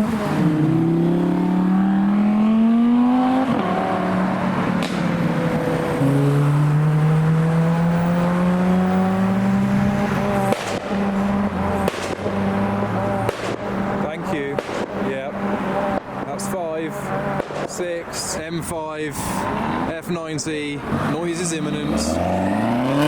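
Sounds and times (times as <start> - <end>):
car engine accelerating: 0.0 - 17.7, 20.7 - 23.0.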